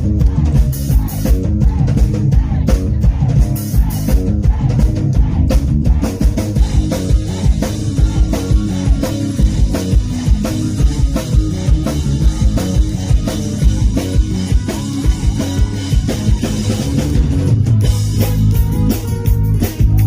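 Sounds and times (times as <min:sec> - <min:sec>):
drum kit beat: 0:00.0 - 0:20.0.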